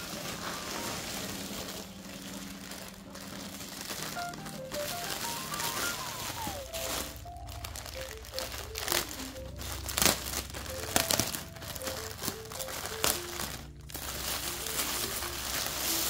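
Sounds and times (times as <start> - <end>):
plastic bag crinkling: 0.0 - 16.0
soft background melody: 0.0 - 16.0
tissue paper rustling: 0.0 - 16.0.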